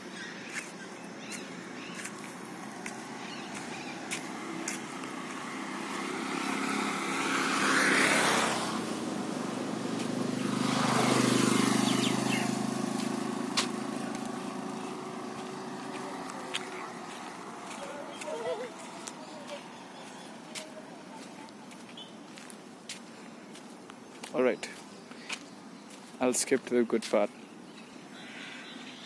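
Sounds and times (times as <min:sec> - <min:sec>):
road vehicles passing: 0:00.0 - 0:29.0.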